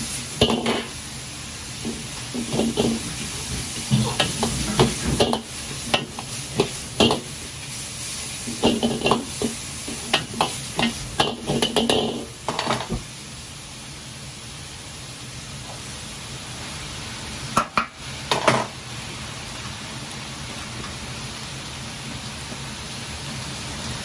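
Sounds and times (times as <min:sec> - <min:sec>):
food sizzling: 0:00.0 - 0:24.0.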